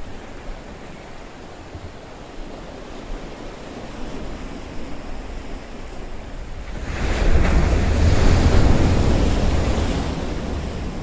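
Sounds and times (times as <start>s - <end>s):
surf: 0.0s - 11.0s
wind buffeting the microphone: 0.0s - 11.0s.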